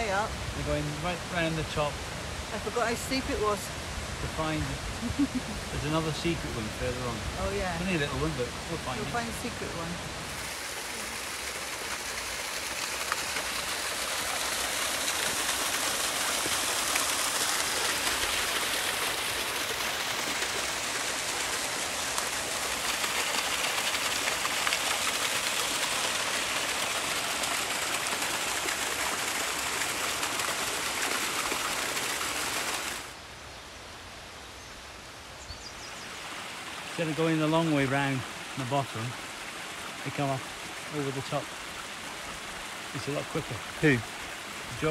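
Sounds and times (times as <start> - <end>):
waterfall splashing over rocks: 0.0 - 33.2, 35.9 - 44.9
small stream rushing: 0.0 - 44.9.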